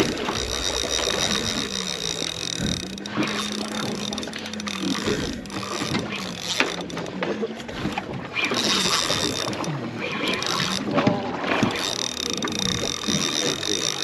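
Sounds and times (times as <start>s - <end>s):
fishing reel clicking: 0.0s - 14.0s
outboard motors humming: 0.0s - 14.0s.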